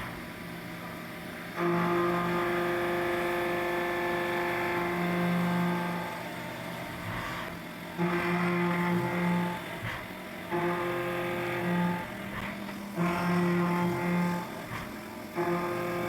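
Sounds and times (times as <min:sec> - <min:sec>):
milling machine cutting metal: 0:01.6 - 0:16.0.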